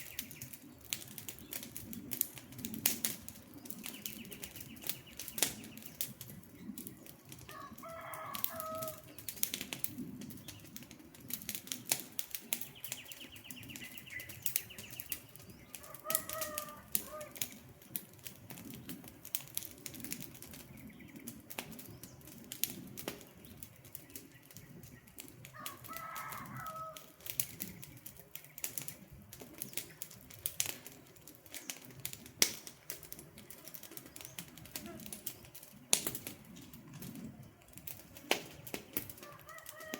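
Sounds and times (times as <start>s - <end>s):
rush of flames: 0.0s - 39.9s
wood fire crackling and popping: 0.0s - 39.9s.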